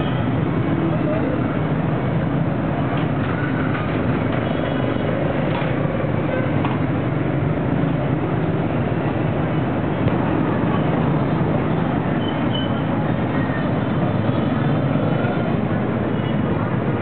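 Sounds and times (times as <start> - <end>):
cars passing: 0.0 - 17.0
motorbike and scooter engines: 0.0 - 17.0.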